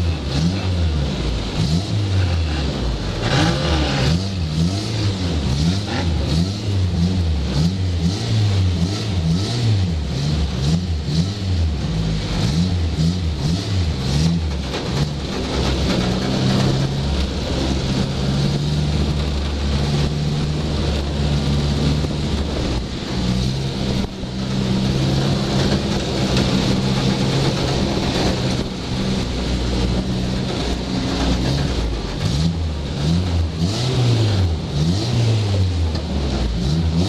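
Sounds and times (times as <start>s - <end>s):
race car engine running hard: 0.0s - 37.0s.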